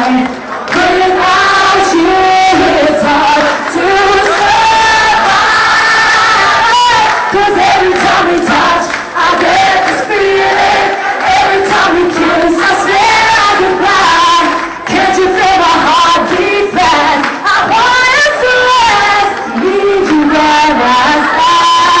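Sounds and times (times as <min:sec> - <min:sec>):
crowd voices: 0:00.0 - 0:22.0
woman singing: 0:00.0 - 0:22.0.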